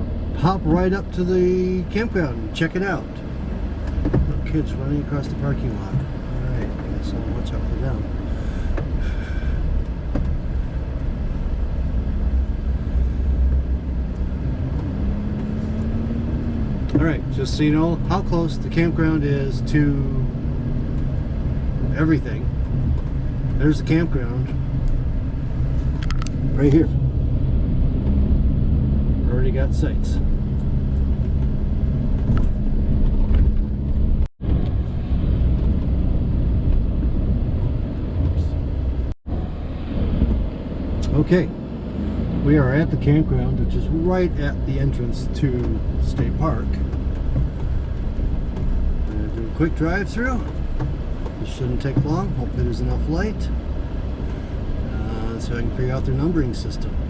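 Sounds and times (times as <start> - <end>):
engine hum rising in pitch: 0.0 - 50.5
car road noise rumble: 0.0 - 57.0.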